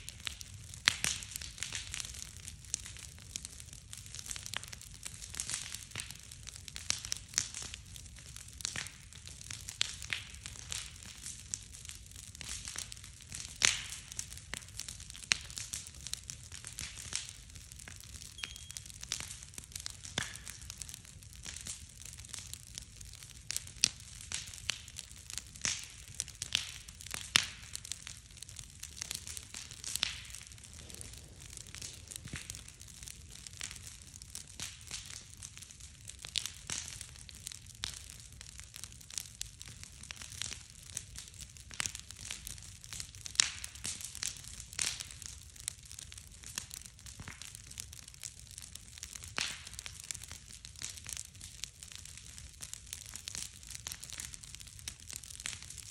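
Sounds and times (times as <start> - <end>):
sharp pops of fire: 0.0 - 48.2, 48.8 - 55.9
bonfire crackling: 0.0 - 55.9.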